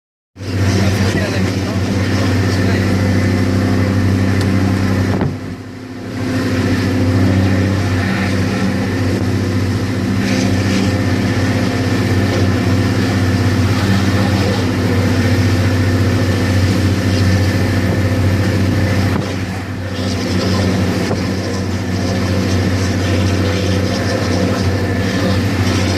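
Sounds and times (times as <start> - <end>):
coach diesel engine droning: 0.4 - 25.9.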